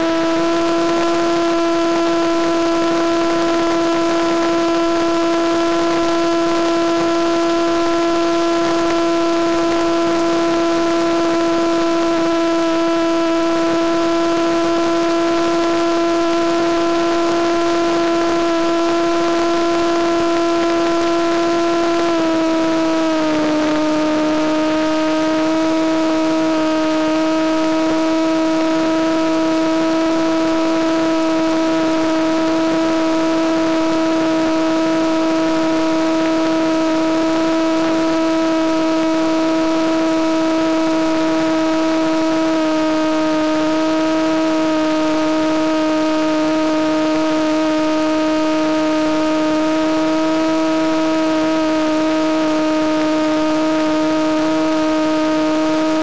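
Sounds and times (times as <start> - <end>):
model plane motor whine: 0.0 - 56.0.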